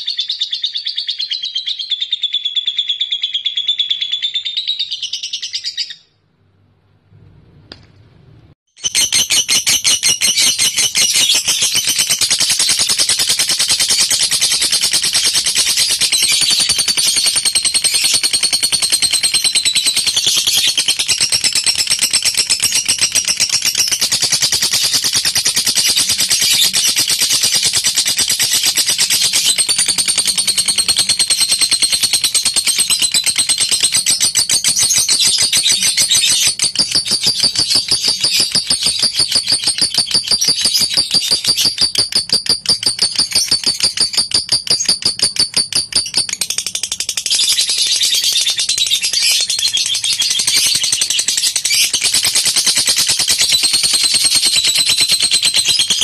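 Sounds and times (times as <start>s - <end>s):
bird chattering trill: 8.8s - 56.0s.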